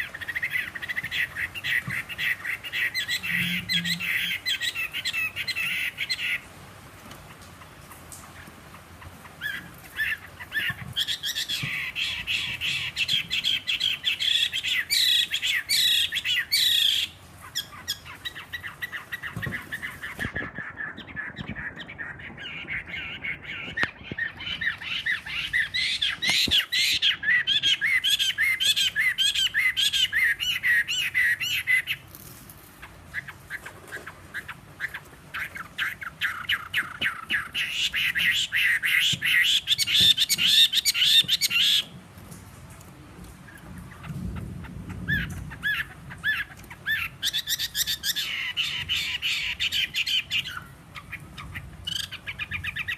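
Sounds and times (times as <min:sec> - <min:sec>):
bird singing rapid repeated notes: 0:00.0 - 0:06.5, 0:08.4 - 0:32.1, 0:32.8 - 0:41.9, 0:43.9 - 0:52.9.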